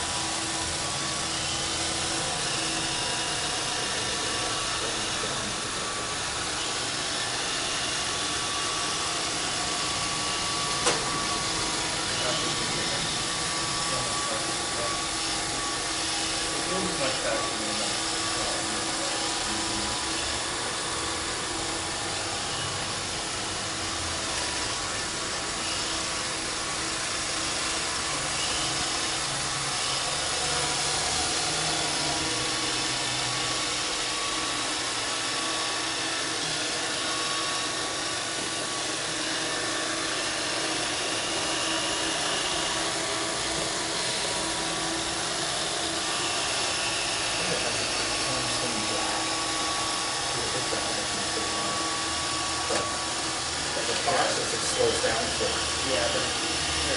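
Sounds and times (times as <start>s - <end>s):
robot vacuum whirring: 0.0s - 56.9s.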